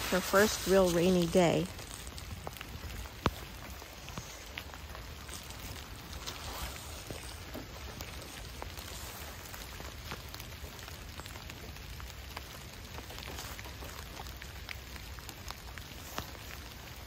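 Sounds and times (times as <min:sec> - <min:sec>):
rain falling: 0:00.0 - 0:17.0
raindrops ticking close by: 0:00.0 - 0:17.0.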